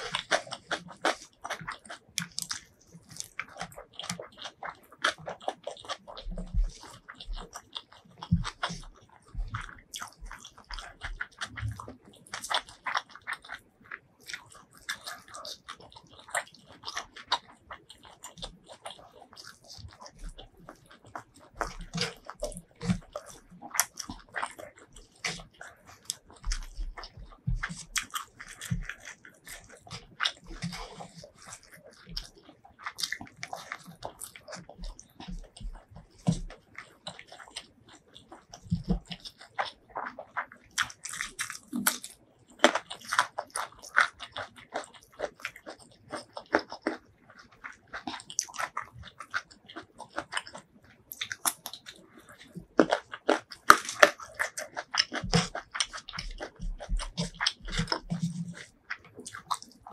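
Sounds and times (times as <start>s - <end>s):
crisp crunches of biting: 0.0s - 59.9s
wet chewing and lip smacking: 0.0s - 59.9s.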